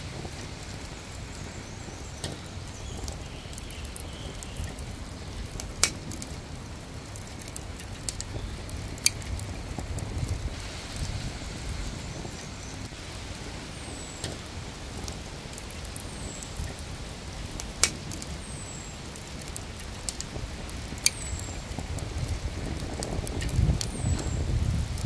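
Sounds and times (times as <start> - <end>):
low wind rumble: 0.0 - 25.0.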